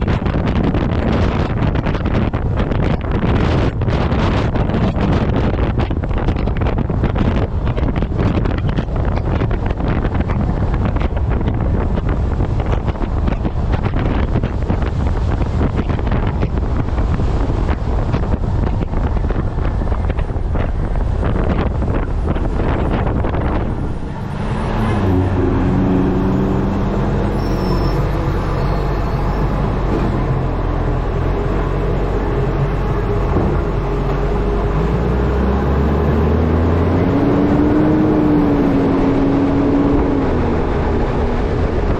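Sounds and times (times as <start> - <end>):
truck engine running: 0.0 - 39.2
wind buffeting microphone: 0.0 - 41.9
low tones: 4.4 - 41.9.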